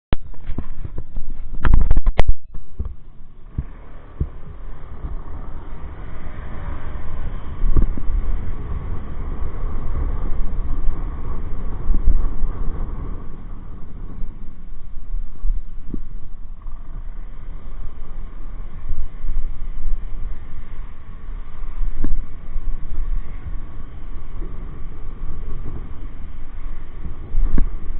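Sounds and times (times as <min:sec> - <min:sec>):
motorcycle engine rumble: 0:00.1 - 0:27.9
wind noise: 0:00.1 - 0:27.9.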